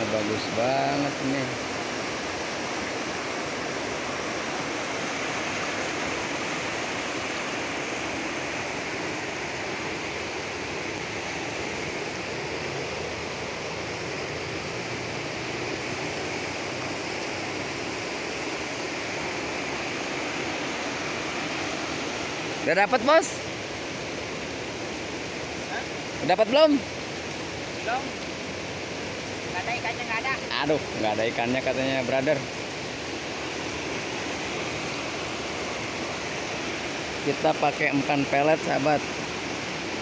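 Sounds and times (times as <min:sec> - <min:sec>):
river rushing over rocks: 0:00.0 - 0:40.0.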